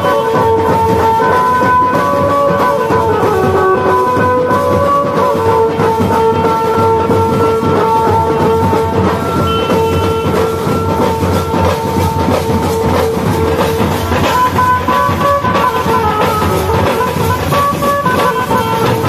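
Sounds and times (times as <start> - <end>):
drums beating fast rhythm: 0.0 - 19.0.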